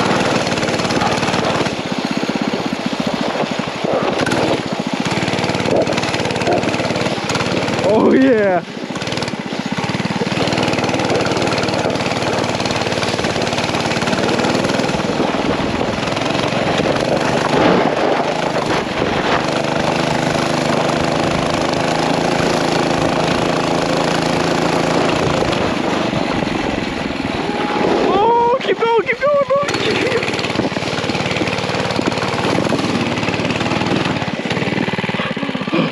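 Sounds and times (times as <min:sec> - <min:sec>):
small engine running: 0:00.0 - 0:35.9.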